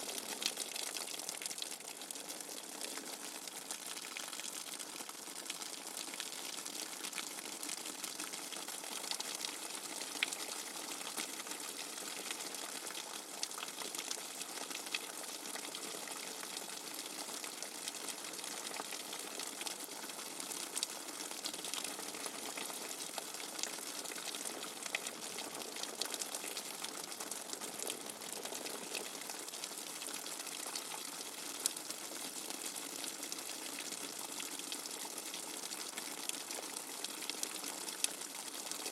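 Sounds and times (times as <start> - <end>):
faint ticks and splashes: 7.0 - 38.9.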